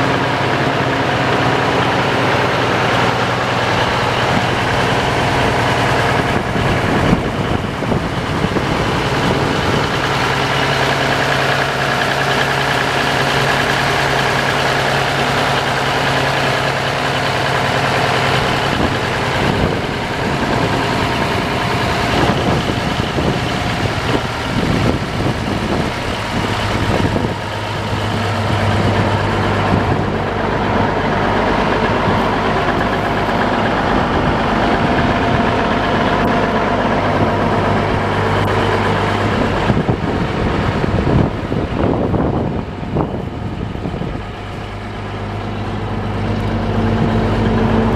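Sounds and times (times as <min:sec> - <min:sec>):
diesel tractor engine idling: 0:00.0 - 0:47.9.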